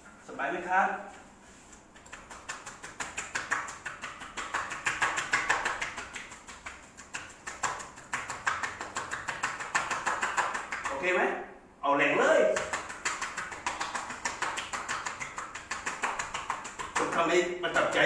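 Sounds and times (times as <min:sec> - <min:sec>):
hands tapping on dog's back: 0:01.9 - 0:10.9, 0:12.5 - 0:18.0.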